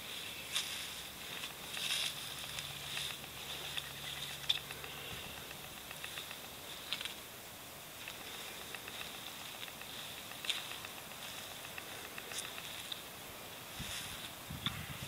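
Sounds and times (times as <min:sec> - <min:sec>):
footsteps on dry grass: 0:00.0 - 0:15.0
steady hiss: 0:00.0 - 0:15.0.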